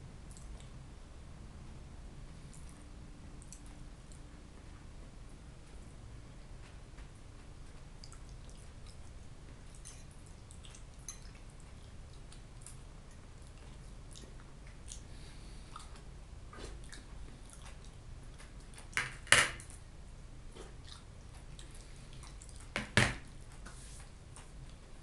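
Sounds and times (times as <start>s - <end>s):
soft chewing: 0.2s - 0.8s, 2.3s - 19.0s, 19.6s - 25.0s.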